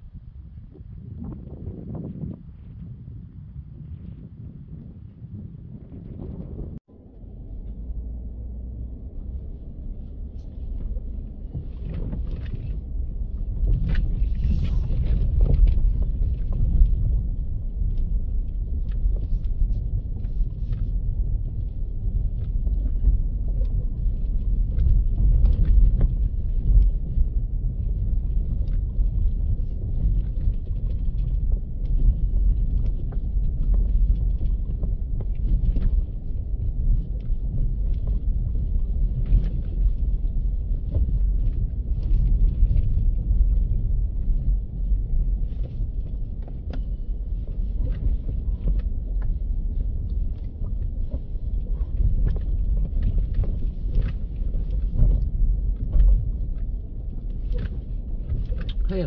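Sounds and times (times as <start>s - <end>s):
vehicle rumbling on dirt road: 0.0s - 59.0s
knocks and rattles over bumps: 10.3s - 59.0s.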